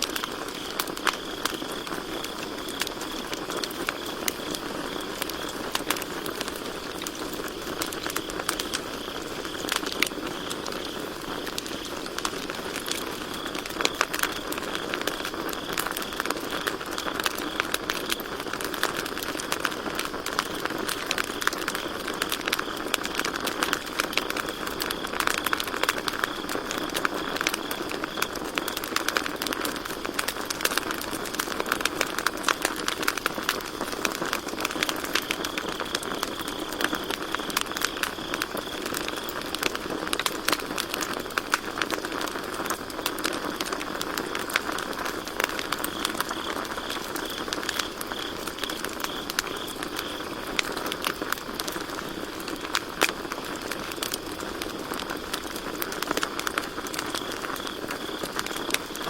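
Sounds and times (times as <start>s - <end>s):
campfire crackling and popping: 0.0s - 59.0s
crickets trilling: 0.0s - 59.0s.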